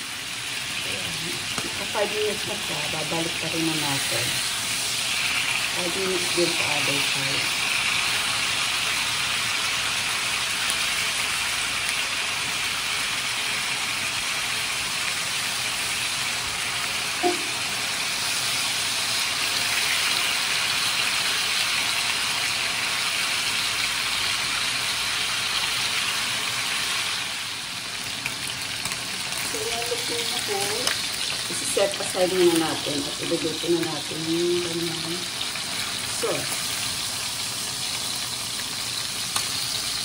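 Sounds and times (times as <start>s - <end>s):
chicken sizzling in hot oil: 0.0s - 40.0s.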